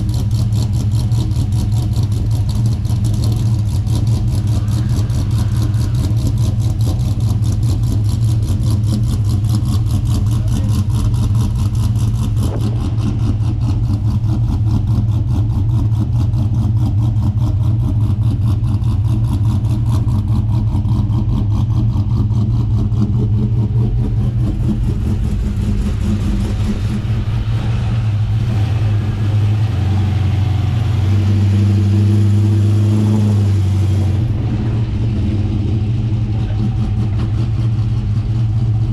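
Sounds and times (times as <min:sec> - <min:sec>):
engine running and revving: 0:00.0 - 0:38.9.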